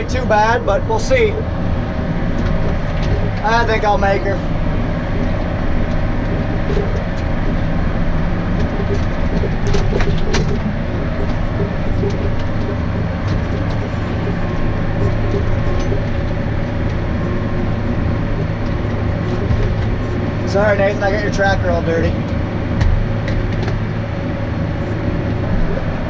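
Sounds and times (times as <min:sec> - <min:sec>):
sharp knocks and rattles: 0:00.0 - 0:25.8
tractor diesel engine under load: 0:00.0 - 0:26.0.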